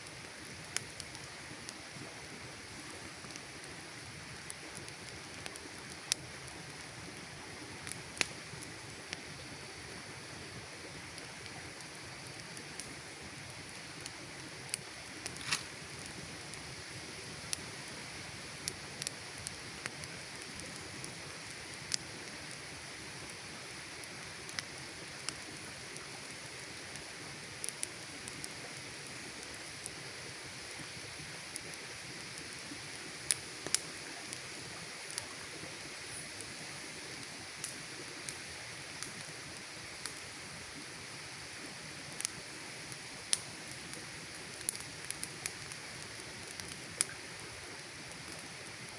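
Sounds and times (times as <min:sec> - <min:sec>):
campfire crackling and popping: 0:00.0 - 0:48.9.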